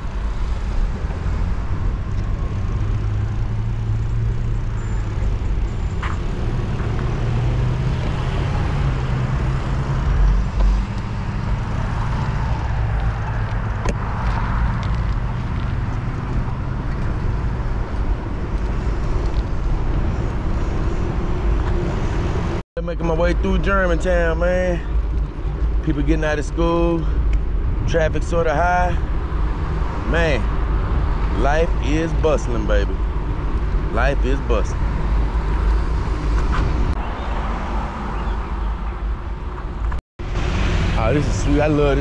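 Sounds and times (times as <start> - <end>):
cars going by: 0.0 - 42.0
low traffic rumble: 0.0 - 42.0.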